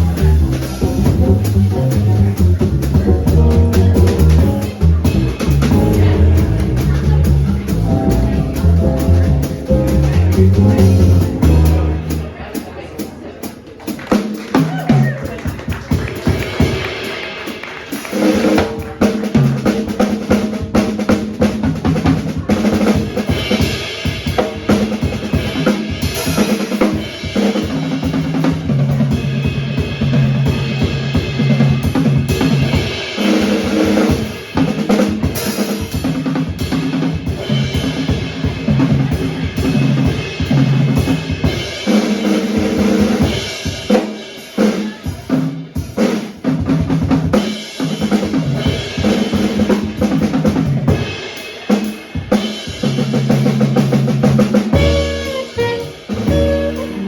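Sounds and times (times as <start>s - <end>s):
drum kit hits: 0.0s - 12.5s, 18.2s - 57.0s
jazz band playing: 0.0s - 57.0s.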